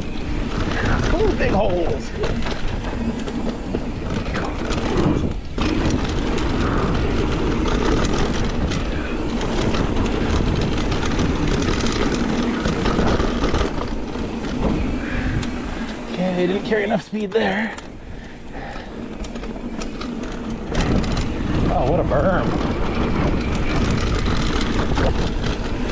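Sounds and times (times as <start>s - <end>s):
bike clicking and rattling: 0.0s - 25.9s
bike tyre noise on dirt: 0.0s - 25.9s.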